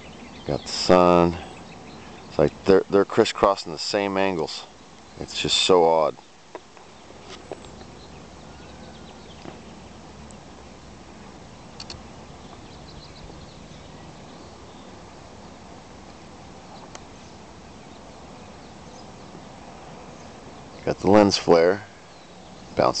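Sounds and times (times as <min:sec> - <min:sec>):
low background hiss: 0:00.0 - 0:23.0.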